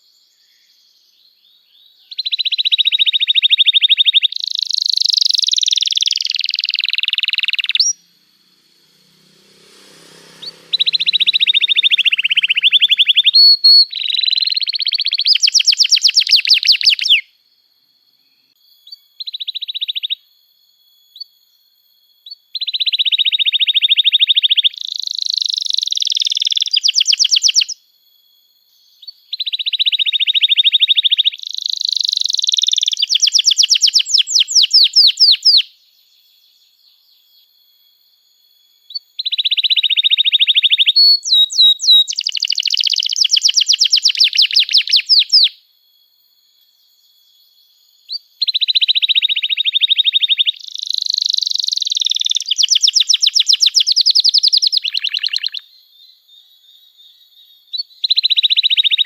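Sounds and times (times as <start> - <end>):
canary singing trills: 0.0 - 17.3, 18.1 - 20.2, 22.2 - 27.8, 28.8 - 37.6, 38.8 - 45.6, 48.0 - 59.0.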